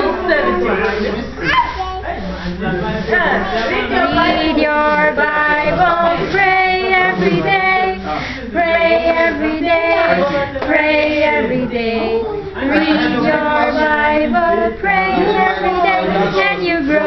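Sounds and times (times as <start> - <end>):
young women singing: 3.2 - 17.0.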